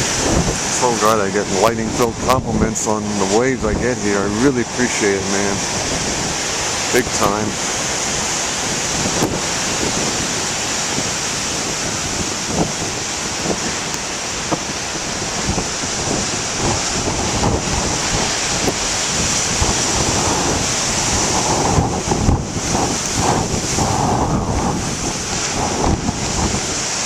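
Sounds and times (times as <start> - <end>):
ocean waves breaking: 0.0 - 27.0
wind buffeting microphone: 0.0 - 27.0.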